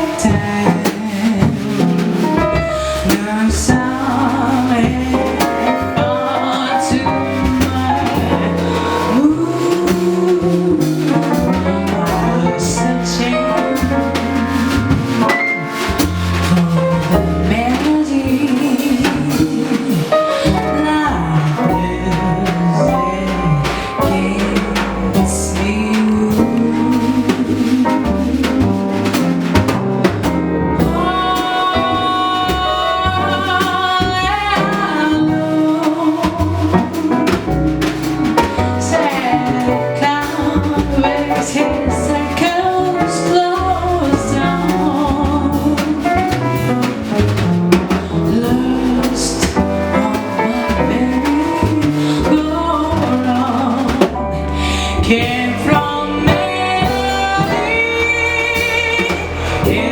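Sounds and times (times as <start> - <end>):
double bass: 0.0 - 59.9
drum kit: 0.0 - 59.9.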